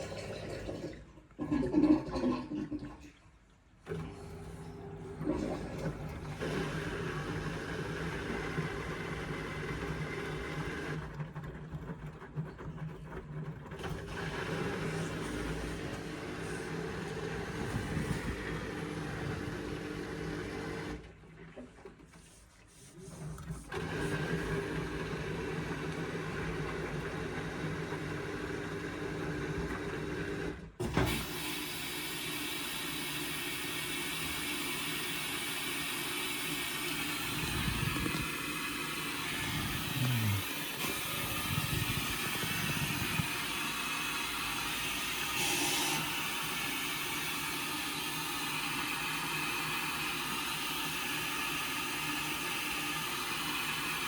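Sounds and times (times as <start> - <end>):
washing machine motor hum: 3.8 - 21.5, 22.7 - 54.0.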